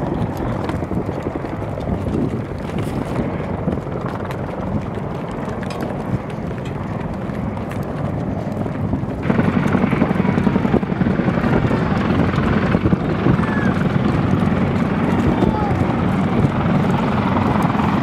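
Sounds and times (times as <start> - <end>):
helicopter rotor rumble: 0.0 - 18.0.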